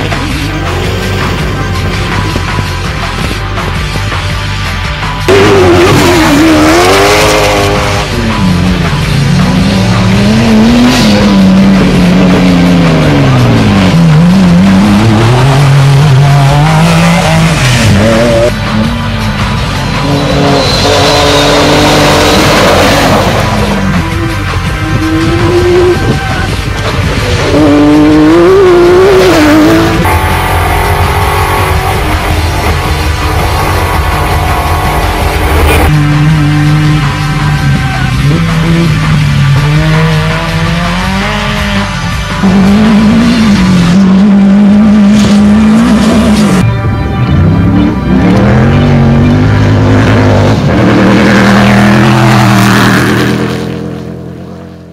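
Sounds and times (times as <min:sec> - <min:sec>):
background music: 0:00.0 - 0:54.9
race car engine running hard: 0:00.0 - 0:54.9.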